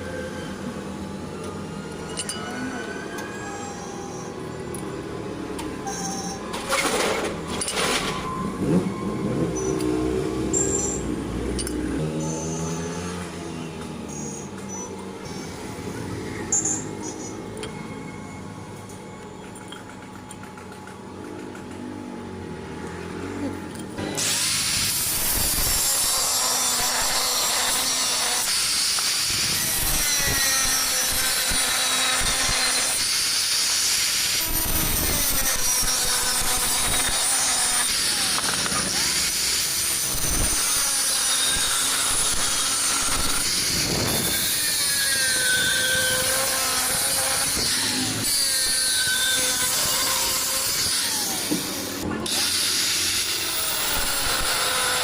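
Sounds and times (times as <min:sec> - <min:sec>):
angle grinder cutting steel: 0:00.0 - 0:05.1, 0:05.8 - 0:17.8, 0:23.3 - 0:55.0.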